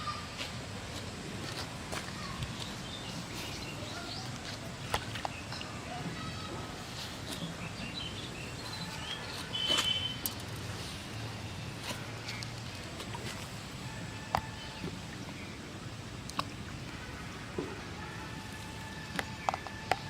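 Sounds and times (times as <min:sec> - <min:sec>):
outdoor background noise: 0:00.0 - 0:20.0
birds chirping: 0:02.2 - 0:06.5, 0:07.2 - 0:20.0.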